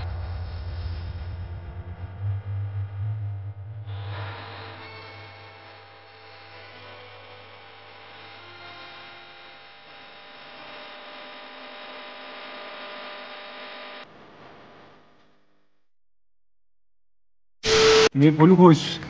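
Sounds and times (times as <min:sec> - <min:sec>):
buzzing hum: 0:00.0 - 0:18.2.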